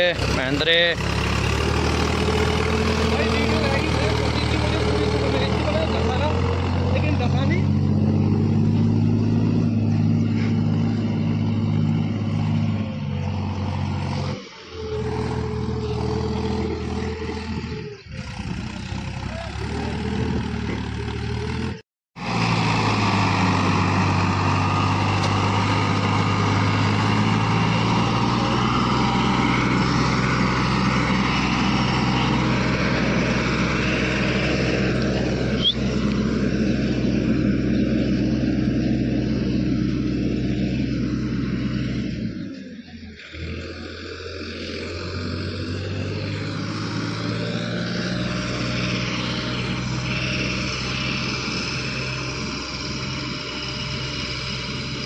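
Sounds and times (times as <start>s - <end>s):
tractor engines running under load: 0.0s - 55.0s.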